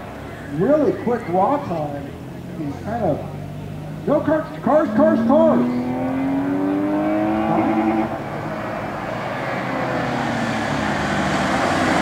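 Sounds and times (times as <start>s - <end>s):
car engine accelerating hard: 2.0s - 12.0s.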